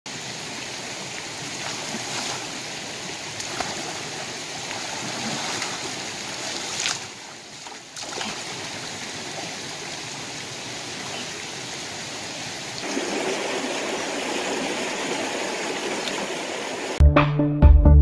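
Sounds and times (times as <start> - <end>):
stream rushing over stones: 0.1 - 17.0
water splashes: 0.1 - 17.0.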